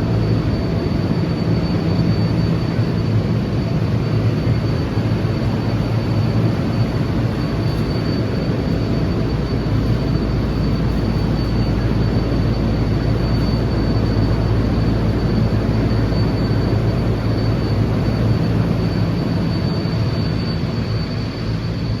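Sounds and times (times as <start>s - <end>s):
refrigeration fans humming: 0.0s - 22.0s.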